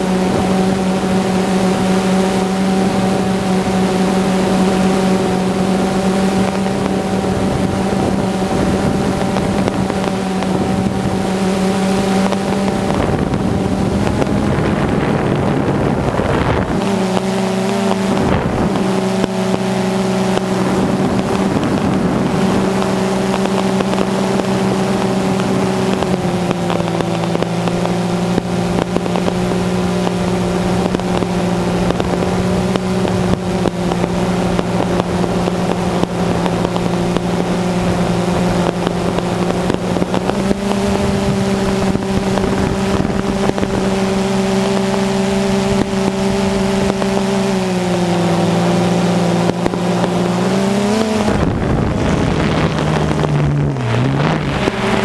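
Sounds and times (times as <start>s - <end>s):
quadcopter motors humming: 0.0s - 55.0s.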